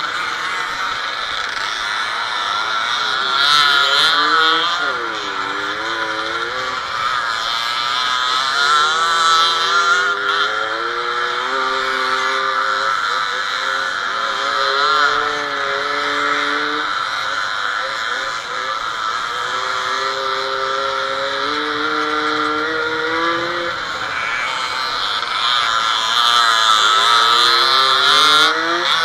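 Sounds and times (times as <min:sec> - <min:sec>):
two-stroke motorcycle engines revving: 0:00.0 - 0:29.0.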